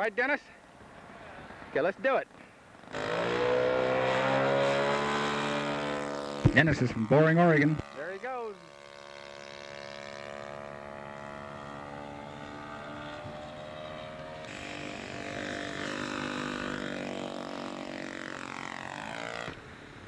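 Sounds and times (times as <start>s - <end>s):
model aircraft engine: 2.7s - 20.0s.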